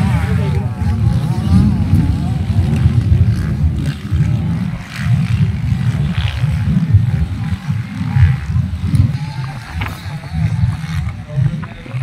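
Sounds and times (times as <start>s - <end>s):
dirt bike engines rumbling: 0.0s - 12.0s.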